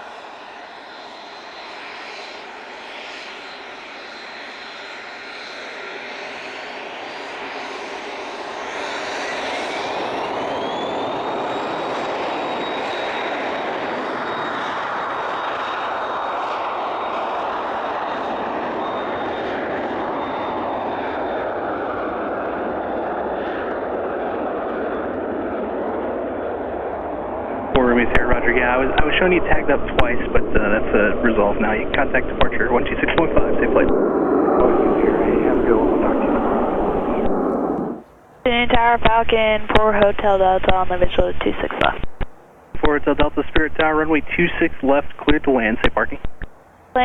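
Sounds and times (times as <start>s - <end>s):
jet engines spooling up: 0.0s - 47.0s.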